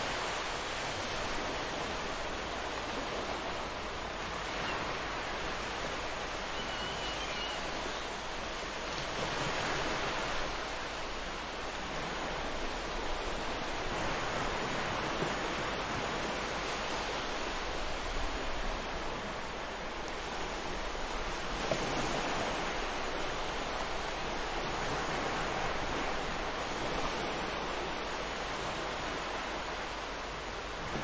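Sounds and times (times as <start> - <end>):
ocean waves washing up beach: 0.0 - 31.0.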